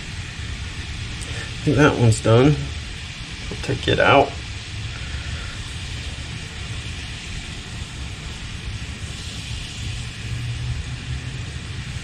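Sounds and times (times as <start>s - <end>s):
fat sizzling in a frying pan: 0.0s - 12.0s
steady low rumble: 0.0s - 12.0s.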